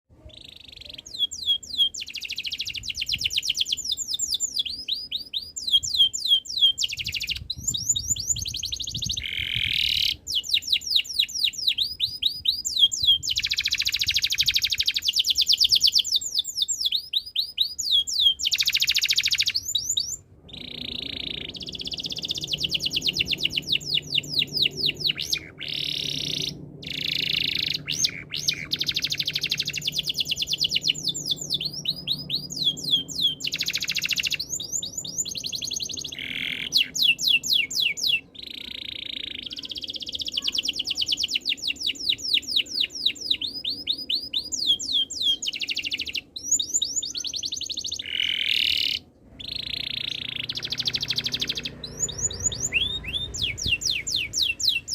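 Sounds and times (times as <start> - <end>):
canary singing: 0.2 - 54.9.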